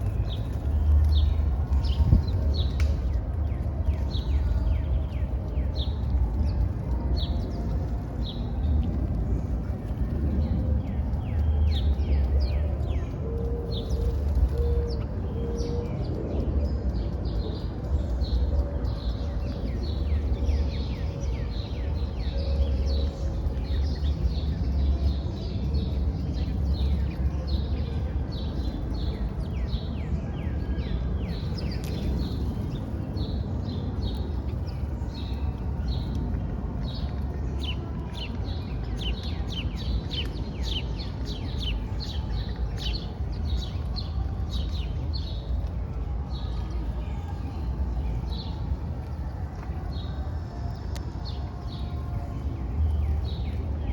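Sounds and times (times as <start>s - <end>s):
low background rumble: 0.0s - 53.9s
small birds chirping: 0.0s - 53.9s.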